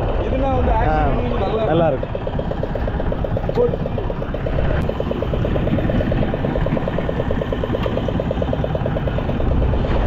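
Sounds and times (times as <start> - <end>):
boat motor running: 0.0 - 10.0
wind: 0.0 - 10.0
water splashing against hull: 1.1 - 10.0.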